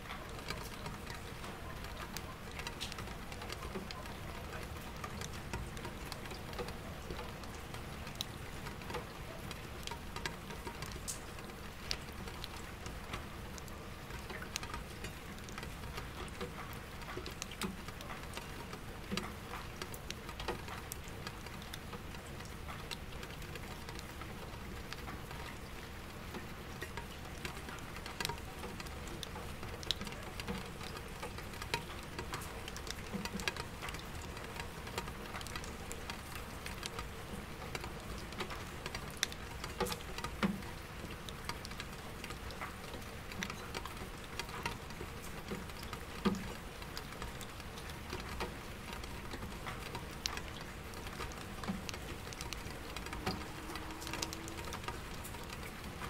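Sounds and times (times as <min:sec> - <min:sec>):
raindrops tapping on window: 0:00.0 - 0:56.0
raindrops plinking in bucket: 0:00.1 - 0:56.0.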